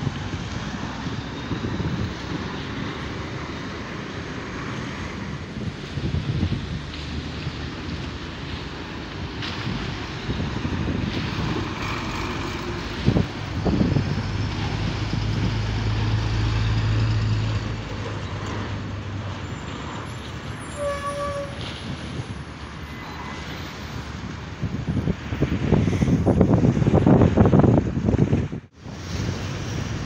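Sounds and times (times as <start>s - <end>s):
city traffic noise: 0.0s - 30.0s
heavy trucks driving past: 0.0s - 30.0s.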